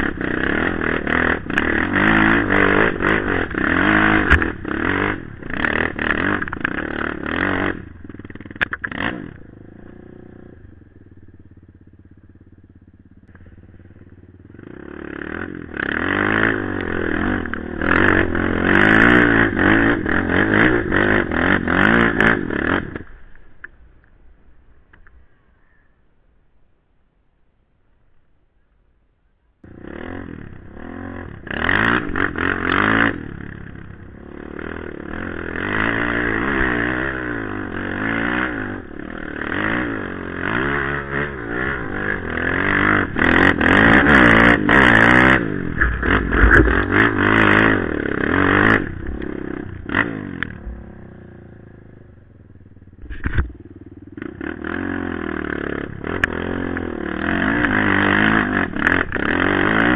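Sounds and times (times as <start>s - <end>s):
off-road vehicle engine revving: 0.0s - 23.2s, 29.6s - 59.9s.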